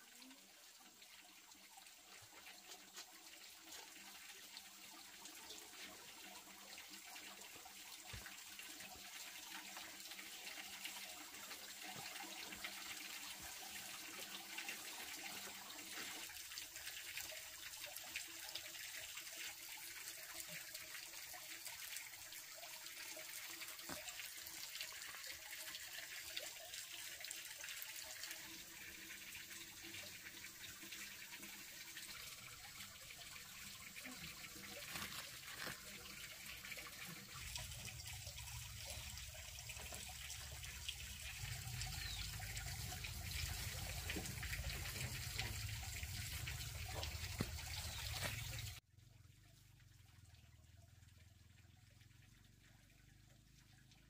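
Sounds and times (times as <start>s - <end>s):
water running: 0.0s - 48.8s.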